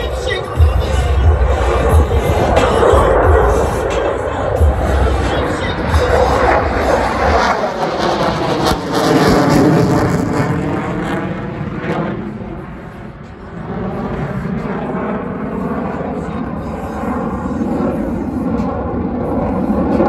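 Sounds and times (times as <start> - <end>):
fighter jet engines roaring: 0.0 - 20.0.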